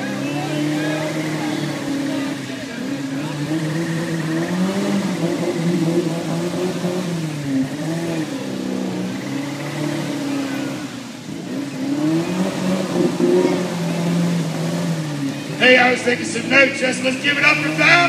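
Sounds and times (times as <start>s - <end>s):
engine revving hard: 0.0s - 18.0s.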